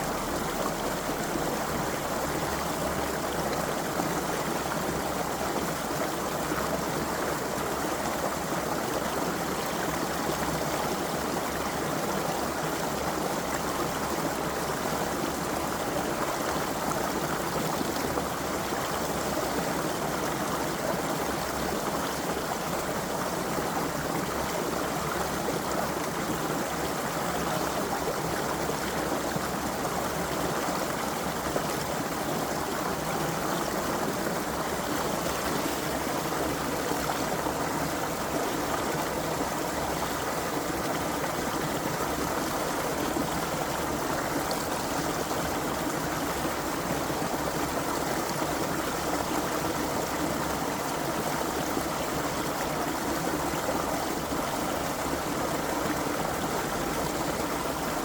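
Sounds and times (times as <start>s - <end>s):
creek water babbling over stones: 0.0s - 58.0s.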